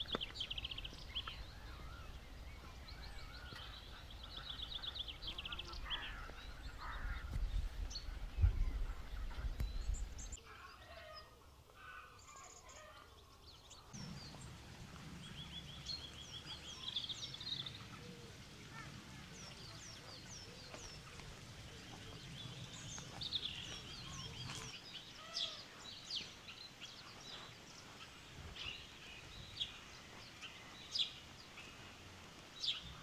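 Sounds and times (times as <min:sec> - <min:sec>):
small birds trilling: 0:00.0 - 0:33.0.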